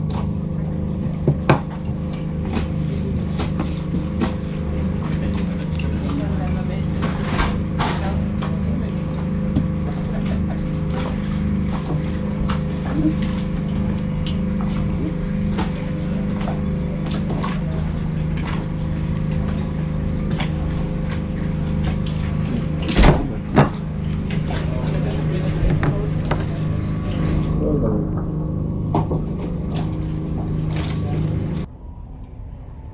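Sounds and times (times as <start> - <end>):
boat engine humming: 0.0 - 32.9.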